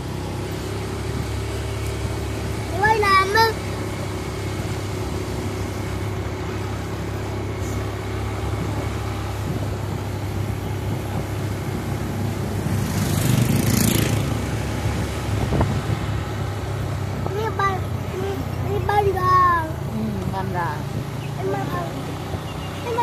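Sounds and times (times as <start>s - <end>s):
motorbike engine running: 0.0s - 23.0s
motorbike passing by: 0.0s - 23.0s
road and wind noise: 0.0s - 23.0s.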